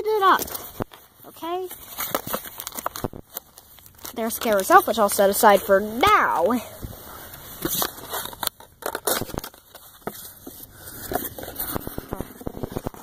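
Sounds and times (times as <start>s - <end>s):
packaging rustling and crinkling: 0.0s - 13.0s
clicks and knocks of box handling: 0.3s - 5.3s, 7.3s - 13.0s.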